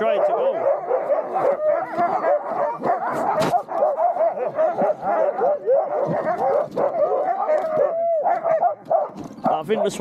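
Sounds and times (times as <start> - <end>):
huskies yelping and barking: 0.0 - 10.0.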